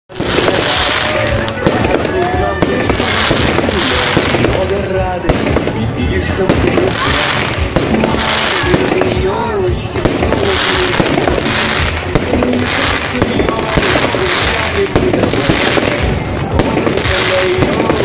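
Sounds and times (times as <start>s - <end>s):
fireworks banging and crackling: 0.1s - 18.0s
music playing: 0.1s - 18.0s.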